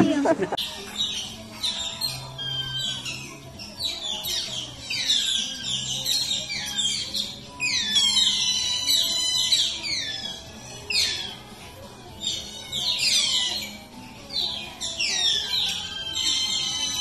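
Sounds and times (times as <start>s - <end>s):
faint low music: 0.0s - 17.0s
otter chirping: 0.6s - 17.0s.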